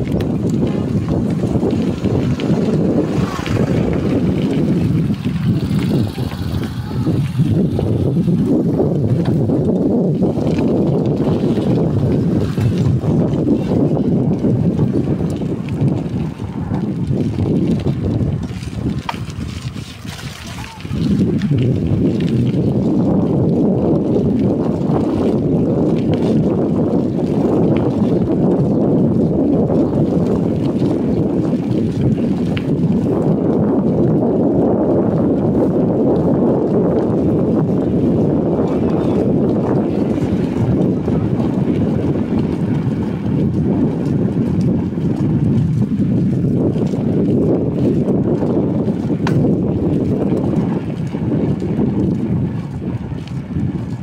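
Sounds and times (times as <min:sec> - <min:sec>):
road and vehicle noise: 0:00.0 - 0:54.0
wind buffeting microphone: 0:00.0 - 0:54.0.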